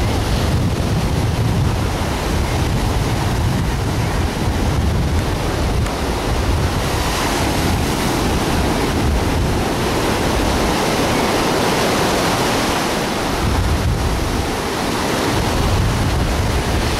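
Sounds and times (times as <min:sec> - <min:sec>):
ocean surf breaking: 0:00.0 - 0:16.9
wind on microphone: 0:00.0 - 0:16.9.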